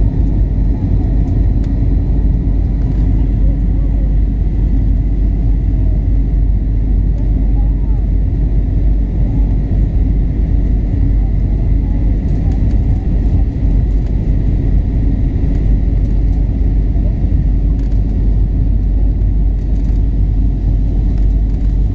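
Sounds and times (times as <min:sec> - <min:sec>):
aircraft engine and airflow rumble: 0:00.0 - 0:21.9.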